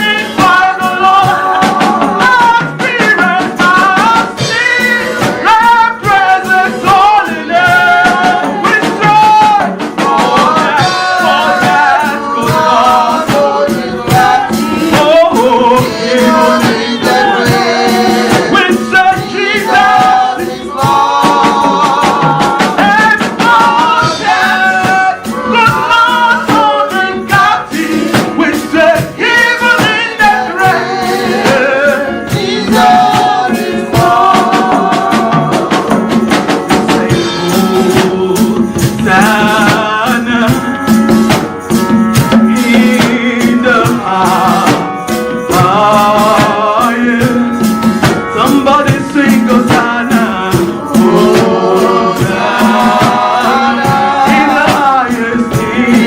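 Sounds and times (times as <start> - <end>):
band accompaniment: 0.0 - 56.0
shaken hand percussion: 0.0 - 56.0
voices singing: 0.0 - 56.0.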